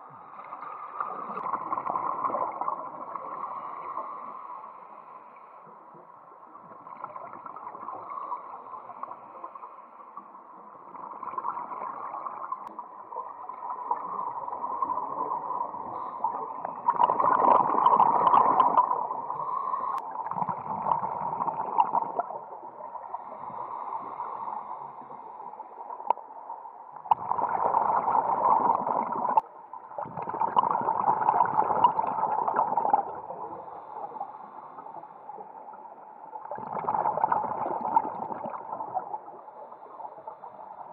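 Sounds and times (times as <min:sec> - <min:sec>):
exhaled bubbles gurgling underwater: 0:00.0 - 0:04.8, 0:05.6 - 0:40.9
muffled water noise: 0:00.0 - 0:40.9.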